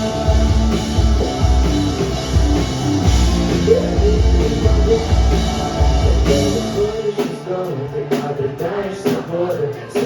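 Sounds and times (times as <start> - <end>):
rock band playing: 0.0 - 10.0.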